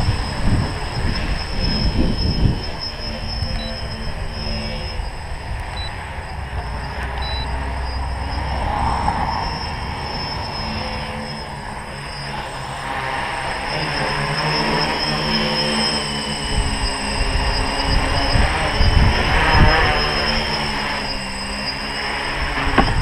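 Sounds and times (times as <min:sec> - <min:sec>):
tricopter motors whining: 0:00.0 - 0:23.0.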